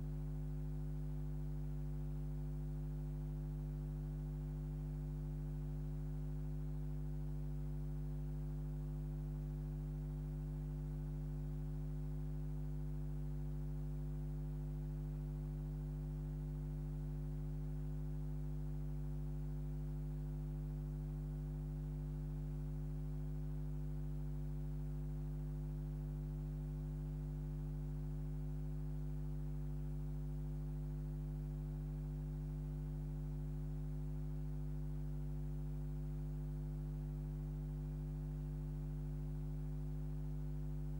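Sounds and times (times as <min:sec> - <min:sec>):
low electrical hum: 0:00.0 - 0:40.9.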